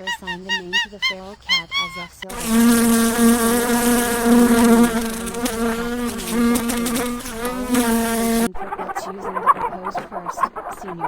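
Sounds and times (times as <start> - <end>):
flying insect buzzing: 0.0 - 11.0.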